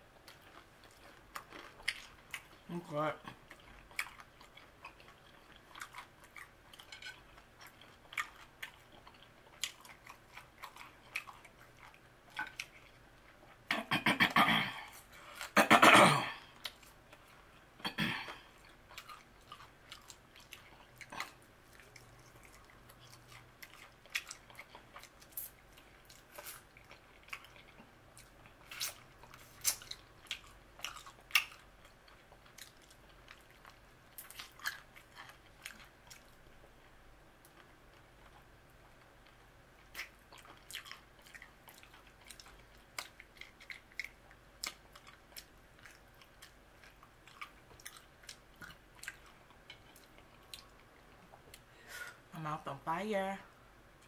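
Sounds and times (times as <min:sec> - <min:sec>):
person chewing: 0:00.2 - 0:15.7, 0:16.3 - 0:52.3.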